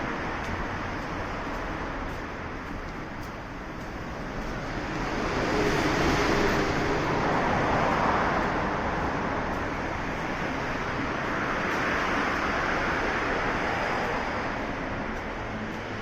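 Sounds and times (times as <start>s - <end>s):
passing vehicle rush: 0.0s - 16.0s.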